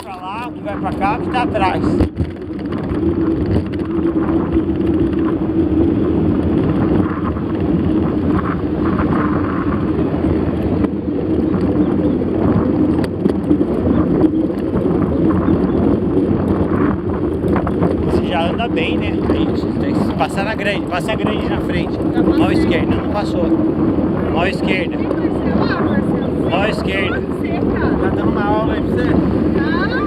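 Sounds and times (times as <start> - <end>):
road rumble while riding: 0.0 - 30.0
wind on microphone: 0.0 - 30.0.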